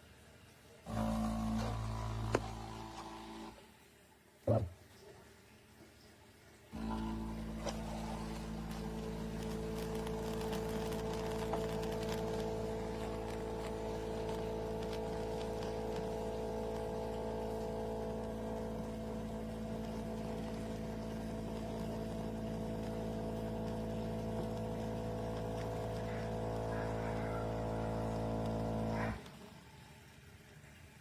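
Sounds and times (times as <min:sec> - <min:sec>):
espresso machine humming: 0:00.9 - 0:03.6, 0:06.8 - 0:29.4.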